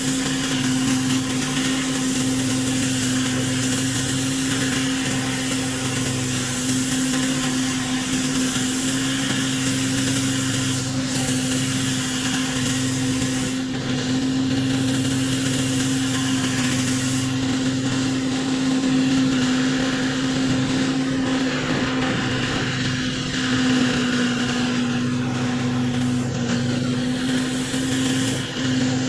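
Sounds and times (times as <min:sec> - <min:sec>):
high-pressure water spray hissing: 0:00.0 - 0:29.0
pressure washer engine running: 0:00.0 - 0:29.0.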